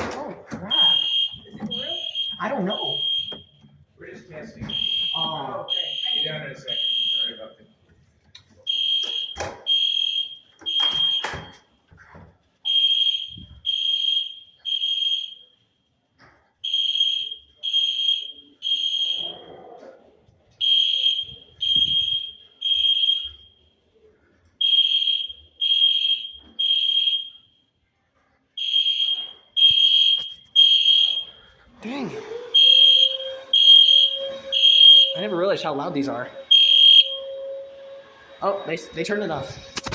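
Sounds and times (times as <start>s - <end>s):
fire alarm beeps: 0.6s - 4.0s, 4.6s - 7.9s, 8.6s - 11.9s, 12.6s - 19.7s, 20.6s - 27.8s, 28.5s - 31.6s, 32.4s - 39.9s.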